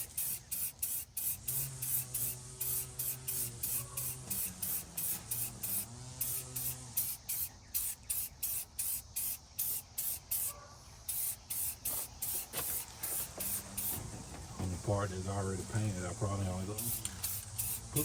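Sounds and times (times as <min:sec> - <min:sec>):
spray paint can hissing: 0:00.0 - 0:14.1, 0:15.8 - 0:18.0.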